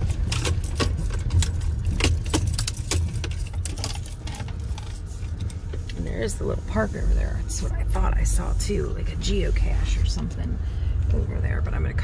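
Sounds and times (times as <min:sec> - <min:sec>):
car driving slowly: 0:00.0 - 0:12.0.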